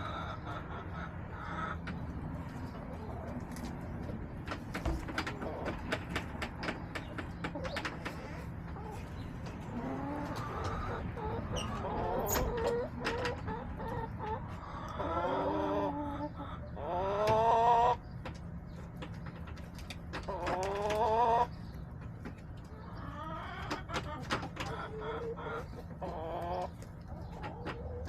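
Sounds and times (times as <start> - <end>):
hens clucking: 0.0 - 28.0.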